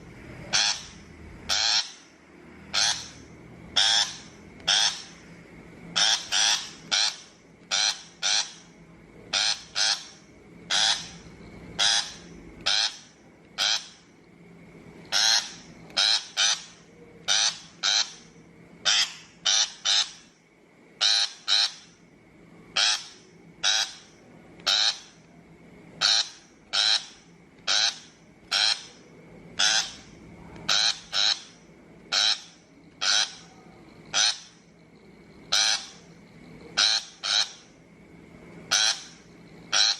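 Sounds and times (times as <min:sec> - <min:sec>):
shrike harsh rasping calls: 0:00.4 - 0:05.3, 0:05.9 - 0:14.1, 0:15.0 - 0:20.4, 0:21.0 - 0:22.0, 0:22.7 - 0:25.2, 0:26.0 - 0:37.8, 0:38.7 - 0:39.9.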